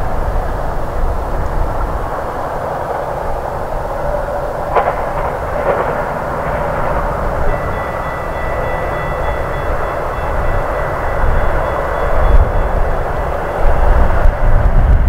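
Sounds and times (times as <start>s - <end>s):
faint high whine: 0.0s - 15.0s
train passing roar: 0.0s - 15.0s.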